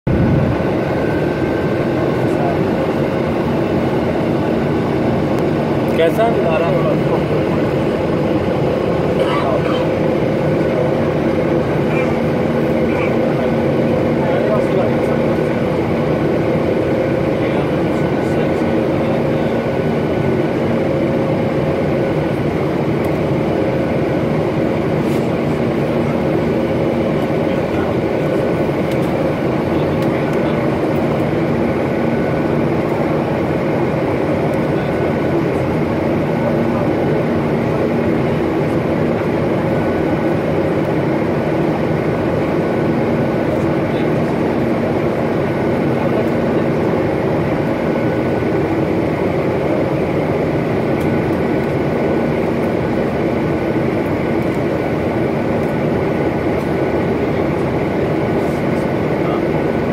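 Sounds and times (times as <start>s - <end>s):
jet engine and airflow rush: 0.1s - 59.9s.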